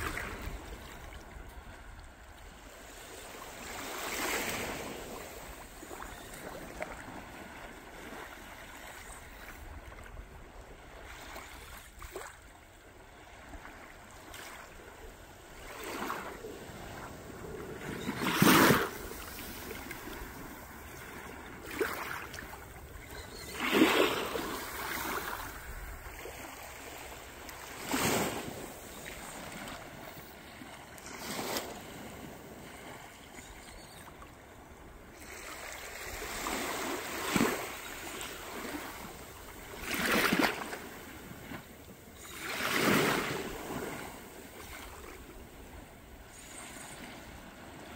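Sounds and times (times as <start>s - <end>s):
waves washing on shore: 0.0s - 33.5s, 35.0s - 47.9s.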